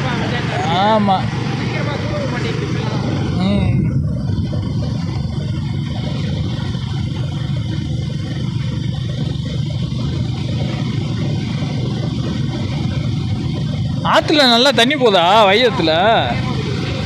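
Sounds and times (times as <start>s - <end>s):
motorcycle engine running: 0.0s - 17.0s
wind and road noise: 0.0s - 17.0s.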